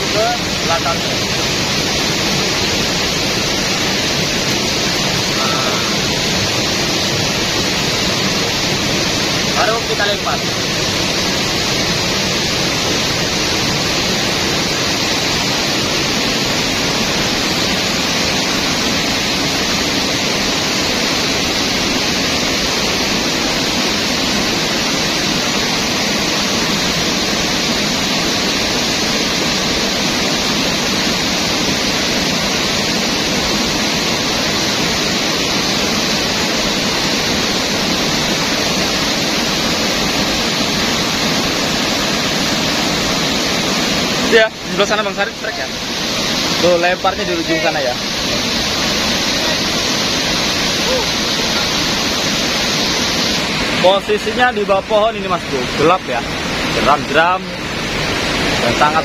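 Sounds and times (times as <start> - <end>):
river rapids rushing: 0.0 - 59.0.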